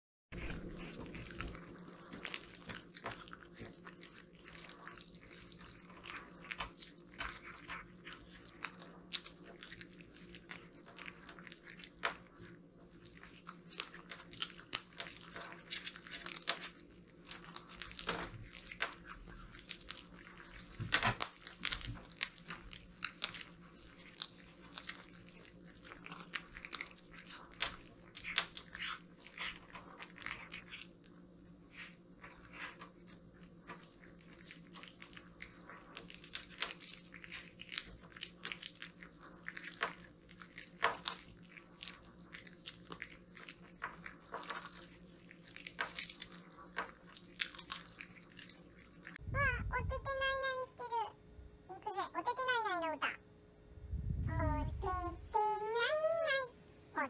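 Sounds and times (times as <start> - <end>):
cats crunching fish bones: 0.4 - 50.6.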